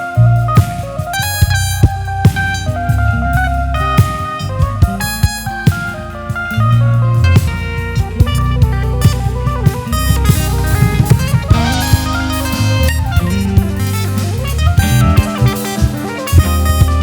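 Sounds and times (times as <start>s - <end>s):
bass: 0.0s - 17.0s
drum kit: 0.0s - 17.0s
keyboards: 0.0s - 17.0s.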